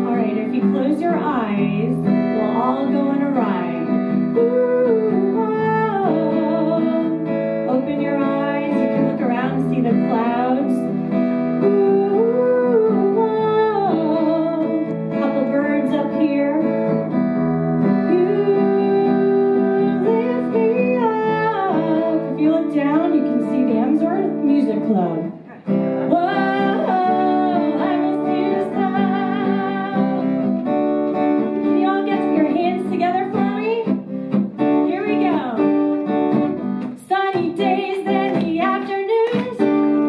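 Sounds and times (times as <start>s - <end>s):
woman singing: 0.0s - 36.0s, 36.8s - 40.0s
acoustic guitar: 0.0s - 40.0s.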